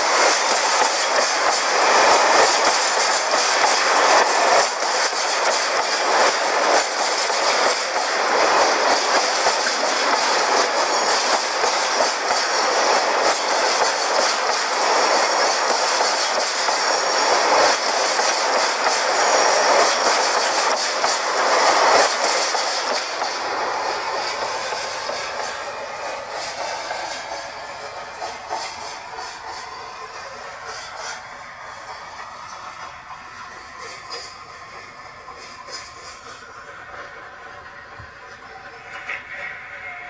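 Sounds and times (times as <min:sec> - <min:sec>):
freight train running: 0:00.0 - 0:40.0
wheels clacking over rail joints: 0:00.0 - 0:40.0.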